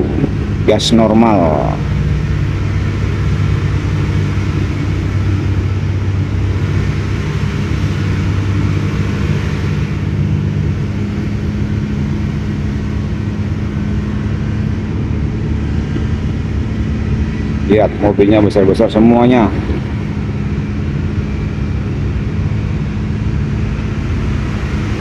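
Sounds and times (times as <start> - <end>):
diesel truck engine hum: 0.0 - 25.0.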